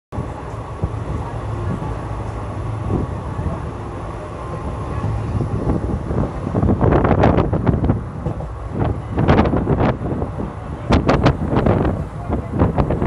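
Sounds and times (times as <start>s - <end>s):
train running rumble: 0.1s - 13.0s.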